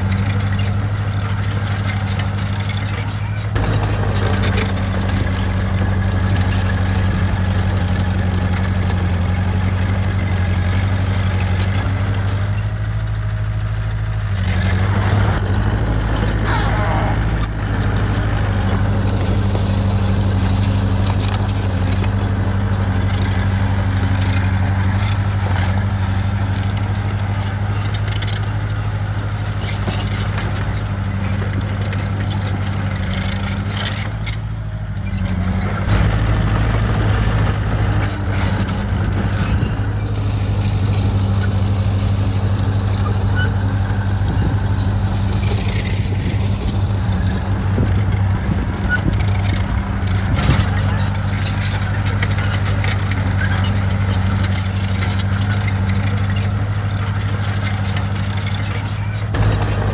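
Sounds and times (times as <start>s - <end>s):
clicking and clatter: 0.0s - 13.0s, 14.3s - 59.9s
bulldozer diesel engine under load: 0.0s - 59.9s.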